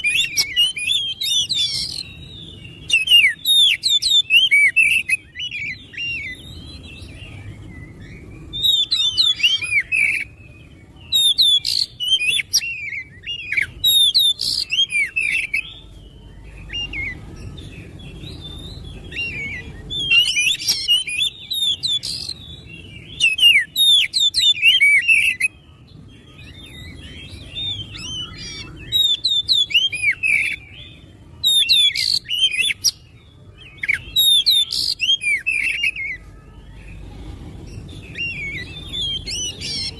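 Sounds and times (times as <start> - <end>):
bird singing whistled phrases: 0.0 - 37.0, 38.1 - 39.9.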